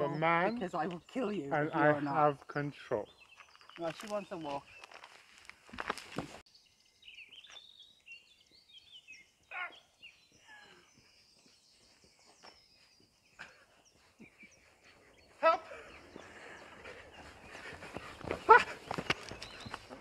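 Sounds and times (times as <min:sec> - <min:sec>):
faint birdsong chirps and trills: 0:00.0 - 0:20.0.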